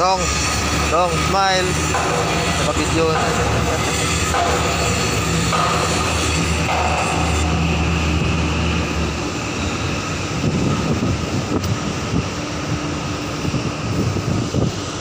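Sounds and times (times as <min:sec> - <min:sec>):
diesel engine drone: 0:00.0 - 0:15.0
rushing noise with gusts: 0:00.0 - 0:15.0.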